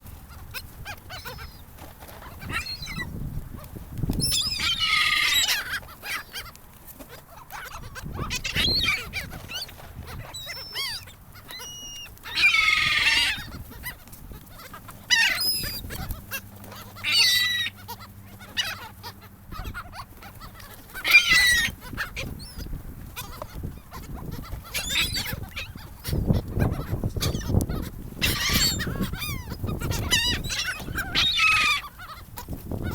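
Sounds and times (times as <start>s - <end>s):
seagulls squawking: 0.2s - 32.9s.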